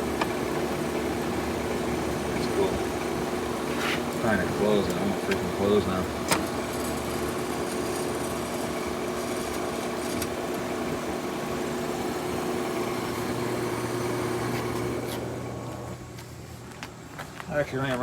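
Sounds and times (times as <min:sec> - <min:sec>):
motor hum: 0:00.0 - 0:17.1
fan air rushing: 0:00.0 - 0:17.2.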